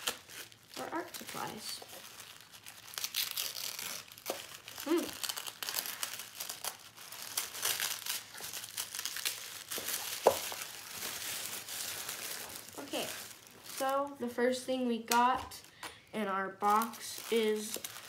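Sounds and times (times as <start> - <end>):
tissue paper crinkling: 0.0 - 14.2, 16.6 - 18.0.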